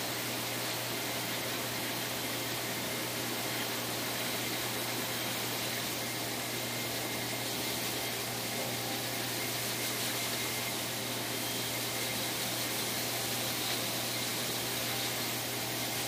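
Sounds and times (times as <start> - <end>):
hose dryer blowing air: 0.0 - 16.0.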